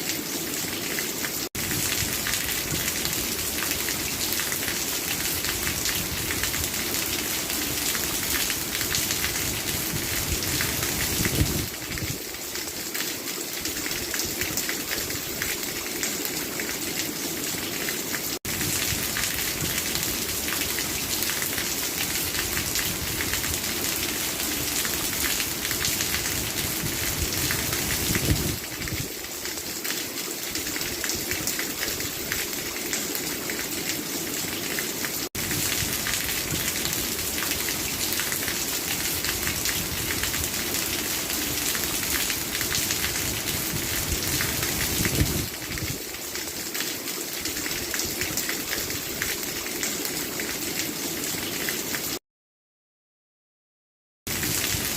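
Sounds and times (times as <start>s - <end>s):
heavy rain on hard surface: 0.0s - 52.2s, 54.3s - 54.9s.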